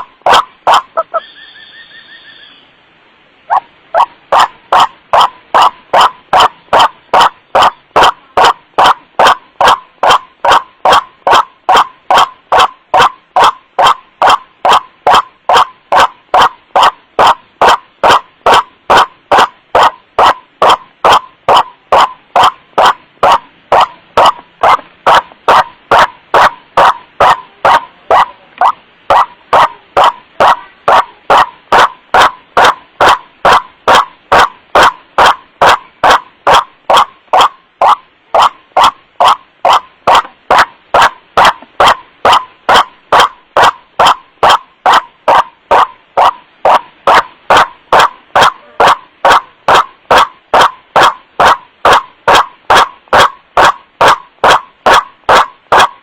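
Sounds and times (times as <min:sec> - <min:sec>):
waterhen repeated wak calls: 0:00.0 - 0:02.8, 0:03.4 - 0:56.0.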